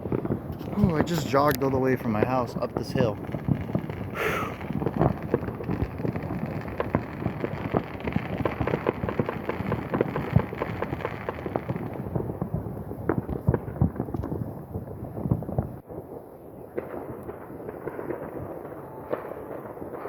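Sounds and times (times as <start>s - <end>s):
fireworks crackling and booming: 0.0s - 20.0s.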